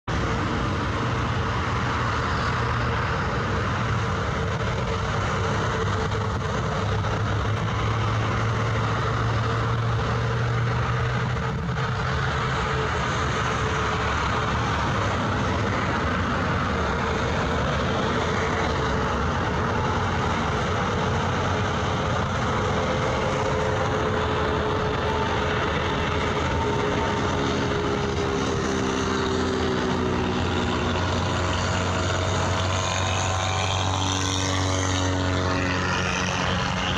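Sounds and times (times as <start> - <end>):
constant whine: 0.0 - 36.9
jet engines idling: 0.0 - 36.9
road traffic roar: 0.0 - 36.9
jet engines spooling up: 0.1 - 36.9.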